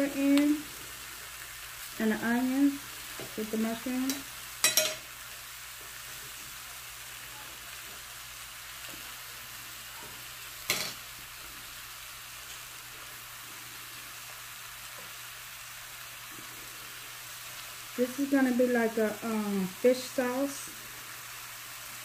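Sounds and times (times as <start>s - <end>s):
food sizzling in a skillet: 0.0s - 22.0s.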